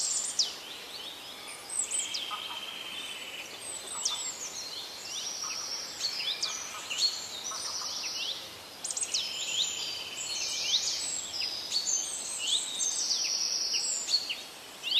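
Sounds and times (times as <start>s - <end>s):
birds singing and calling: 0.0s - 14.9s
faint steady hiss: 0.0s - 14.9s.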